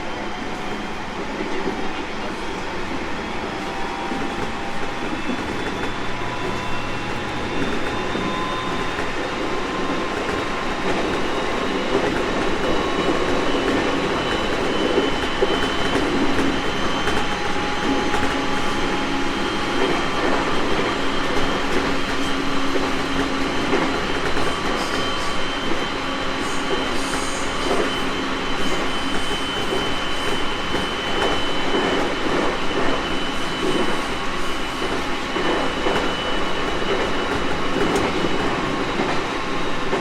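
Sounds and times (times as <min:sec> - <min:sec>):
rumble of wheels on rail: 0:00.0 - 0:40.0.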